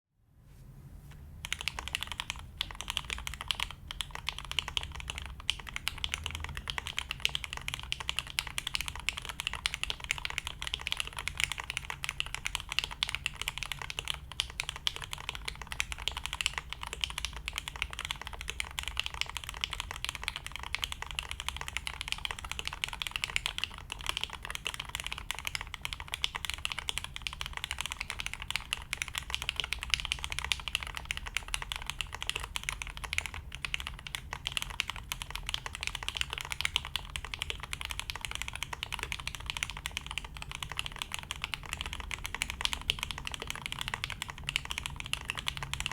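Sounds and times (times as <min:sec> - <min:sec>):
fast typing on mechanical keyboard: 0:01.4 - 0:45.9.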